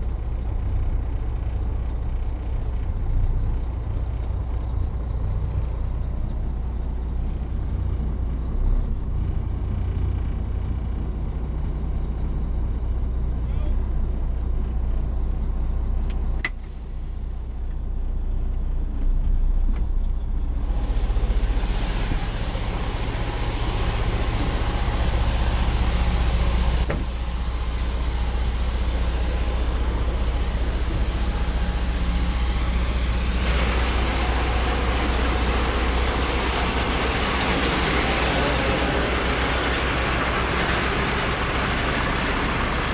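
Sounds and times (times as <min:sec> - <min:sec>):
heavy machinery engines droning: 0:00.0 - 0:42.9.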